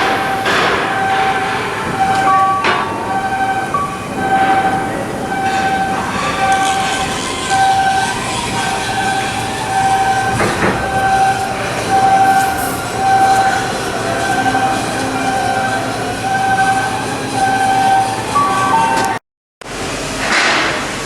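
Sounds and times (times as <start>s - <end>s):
high steady tone: 0.0s - 19.2s
shipyard machinery running: 0.0s - 21.0s.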